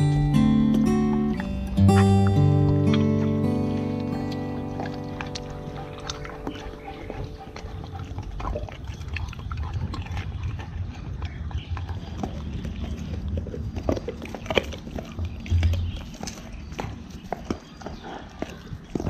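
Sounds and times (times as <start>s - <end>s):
dogs chewing meat: 0.0s - 19.0s
dogs crunching bone: 0.0s - 19.0s.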